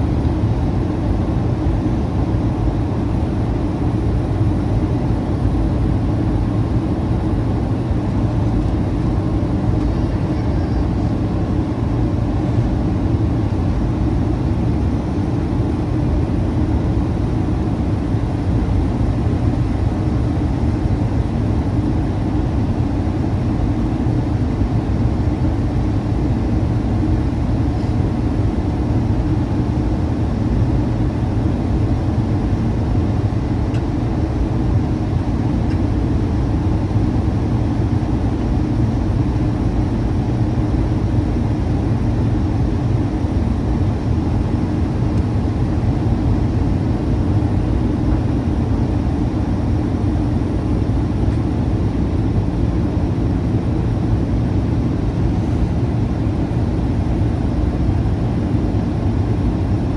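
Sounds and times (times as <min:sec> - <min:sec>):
airliner cabin rumble: 0:00.0 - 0:59.9
faint constant hum: 0:00.0 - 0:59.9.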